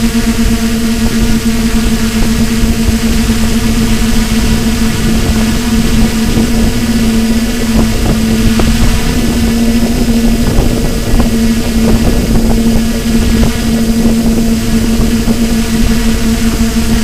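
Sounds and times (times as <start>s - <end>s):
drone propellers whirring: 0.0s - 17.0s
wind buffeting microphone: 0.0s - 17.0s.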